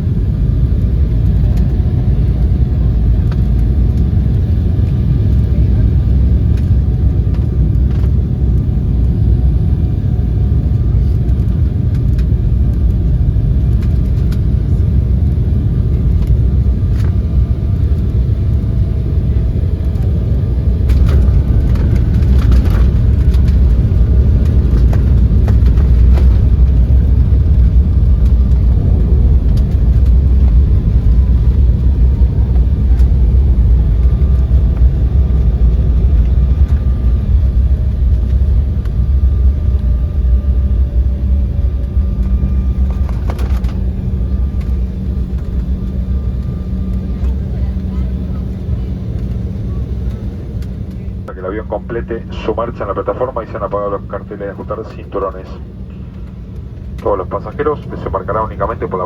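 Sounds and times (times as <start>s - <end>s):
airliner cabin rumble: 0.0s - 59.0s
faint jet engine whine: 0.0s - 59.0s.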